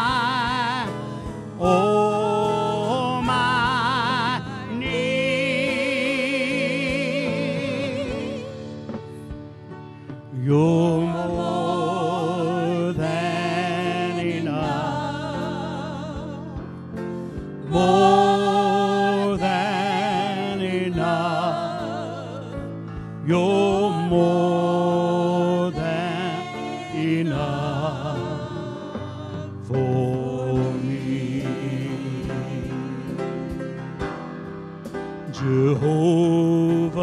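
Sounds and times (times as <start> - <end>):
gospel singing with vibrato: 0.0 - 37.0
instrumental accompaniment: 0.0 - 37.0.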